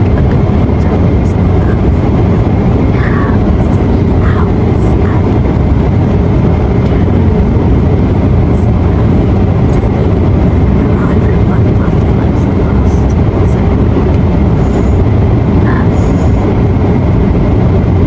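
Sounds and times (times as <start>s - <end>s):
faint voices: 0.0s - 16.6s
jet engines and airflow rushing: 0.0s - 18.0s.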